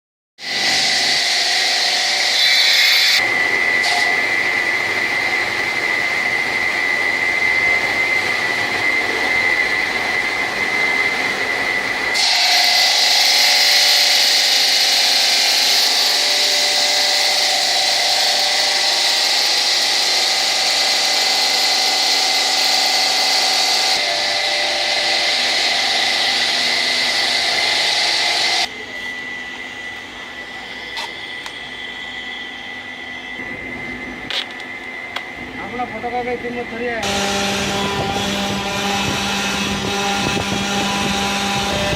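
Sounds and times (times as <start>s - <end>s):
stone-cutting machinery whining: 0.4s - 41.9s.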